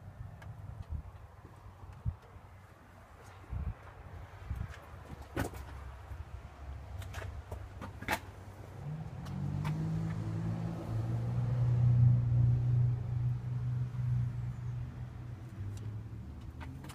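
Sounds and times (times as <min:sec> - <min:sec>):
vehicle engine rumble: 0:00.0 - 0:16.9.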